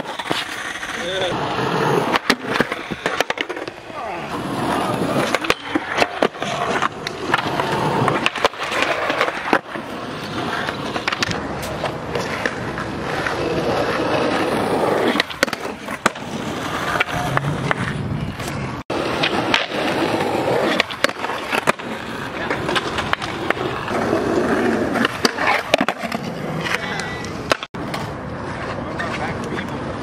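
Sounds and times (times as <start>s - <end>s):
skateboard tail clacks: 0.0s - 30.0s
skateboard wheels rolling on concrete: 0.0s - 30.0s.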